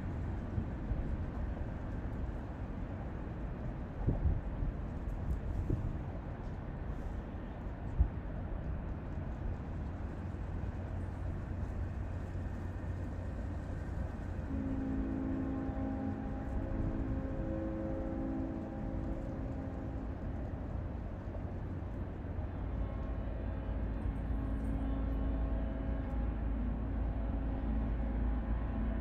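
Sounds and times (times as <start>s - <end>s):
low rumble of vehicle engines: 0.0s - 29.0s.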